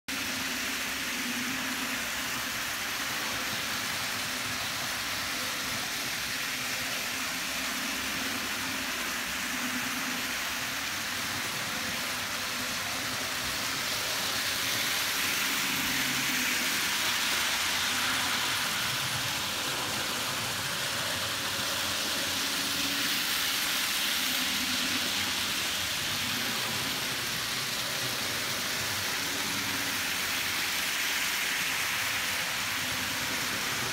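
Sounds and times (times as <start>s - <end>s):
model train wheels rolling on rails: 0.1s - 33.9s.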